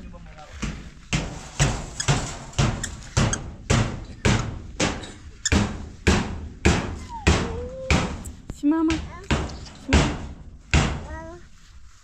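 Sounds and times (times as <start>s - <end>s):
heavy thuds: 0.4s - 11.3s.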